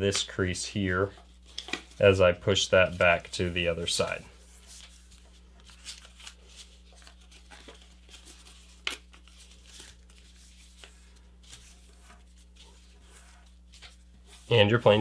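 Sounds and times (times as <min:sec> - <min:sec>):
paper rustling and crinkling: 0:01.0 - 0:15.0.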